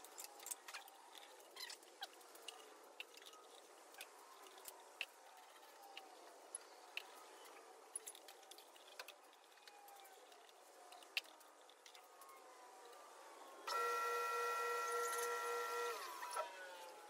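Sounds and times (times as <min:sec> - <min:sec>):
cables and plugs clicking: 0:00.0 - 0:17.0.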